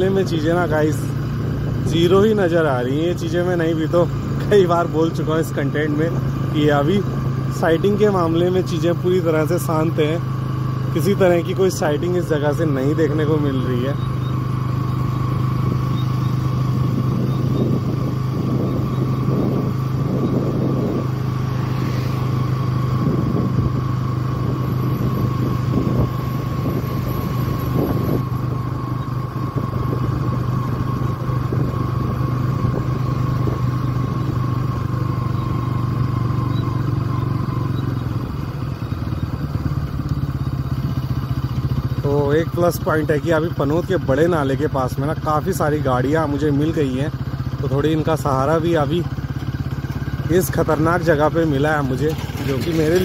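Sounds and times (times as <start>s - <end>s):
motorcycle engine running: 0.0s - 53.0s
road noise: 0.0s - 53.0s.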